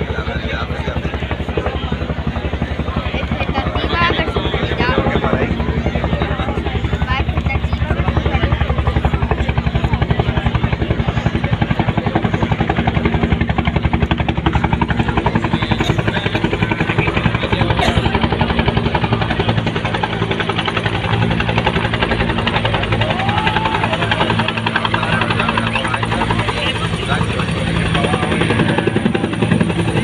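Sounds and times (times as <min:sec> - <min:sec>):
helicopter rotor beating: 0:00.0 - 0:30.0.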